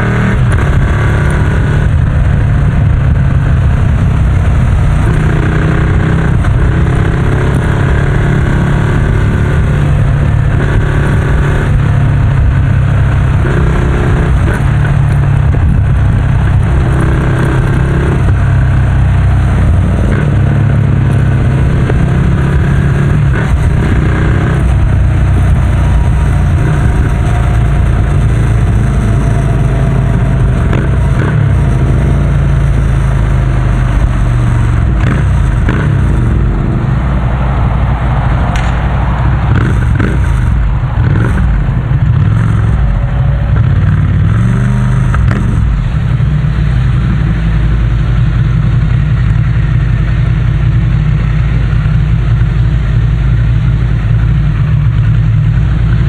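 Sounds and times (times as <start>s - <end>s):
motorcycle engine at low speed: 0.0s - 56.0s.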